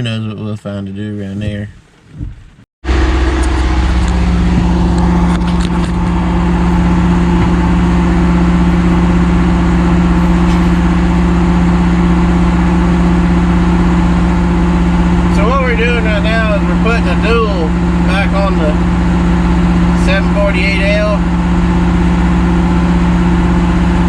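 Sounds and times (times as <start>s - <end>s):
heavy equipment engine hum: 2.8s - 24.0s.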